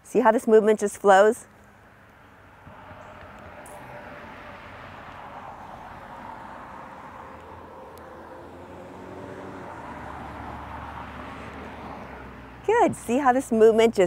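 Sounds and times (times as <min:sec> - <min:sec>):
outdoor background rush: 0:00.0 - 0:14.0.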